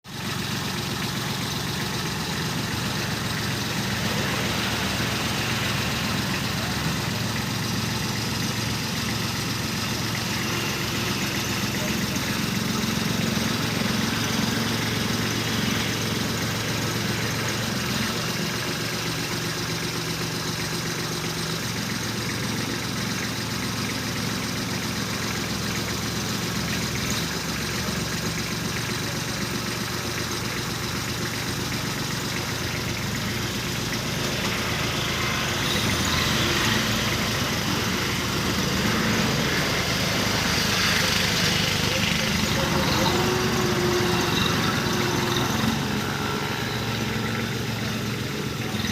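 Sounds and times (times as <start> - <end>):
tractor diesel engine idling: 0.0 - 48.9.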